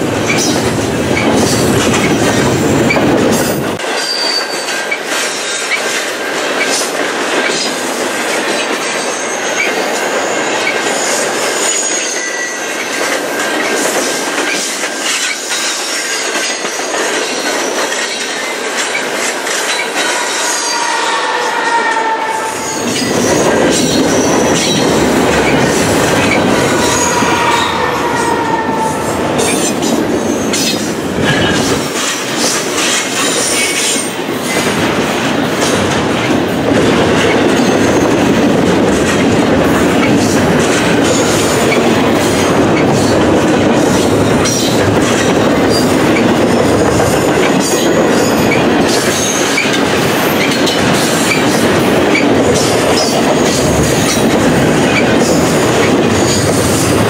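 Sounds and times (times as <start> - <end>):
steel wheels clattering on rails: 0.0 - 21.1, 22.0 - 57.0.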